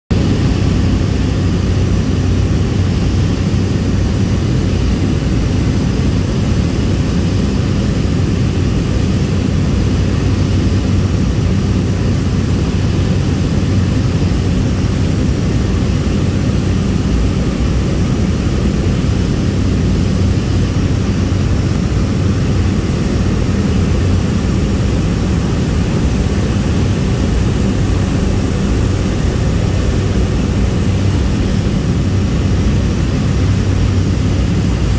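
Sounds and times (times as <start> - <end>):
low cabin hum: 0.1 - 34.9
propeller engine droning: 0.1 - 34.9.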